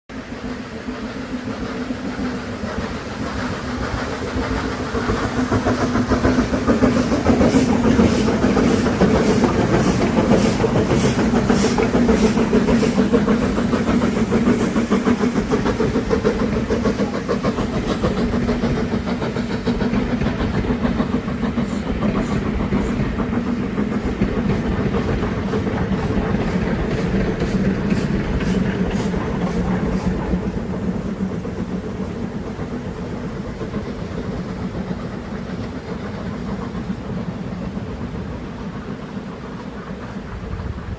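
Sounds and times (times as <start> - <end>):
train running past: 0.1 - 40.9.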